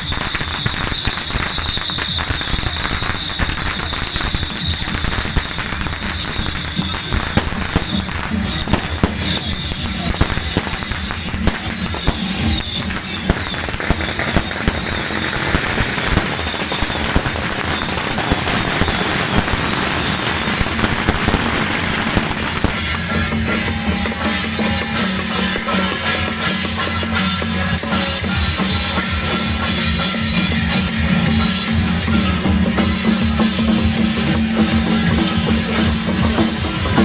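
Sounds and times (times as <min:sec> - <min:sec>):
firecrackers popping: 0:00.0 - 0:37.0
procession music with drums: 0:00.0 - 0:37.0.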